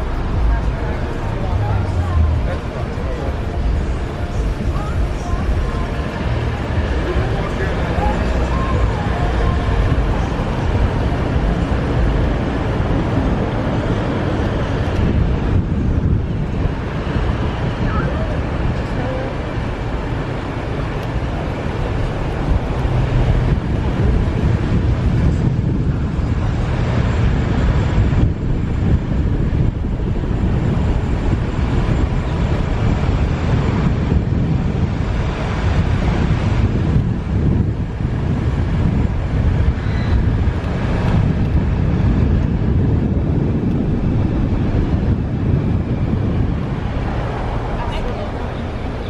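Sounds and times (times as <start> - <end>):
car road noise: 0.0 - 49.0
traffic low rumble: 0.0 - 49.0
wind buffeting microphone: 0.0 - 49.0.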